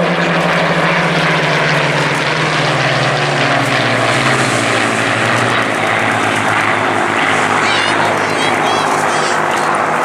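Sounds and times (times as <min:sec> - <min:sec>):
propeller plane passing low: 0:00.0 - 0:10.0.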